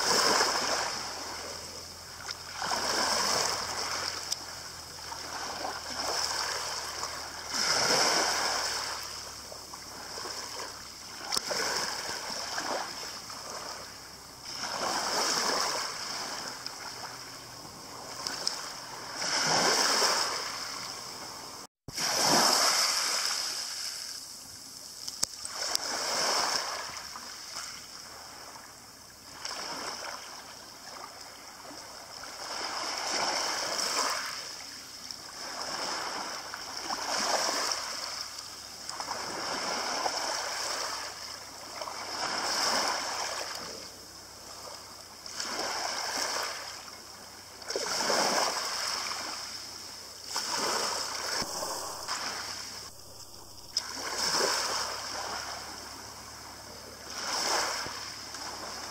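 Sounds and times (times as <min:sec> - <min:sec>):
waves lapping on pebble beach: 0:00.0 - 0:58.9.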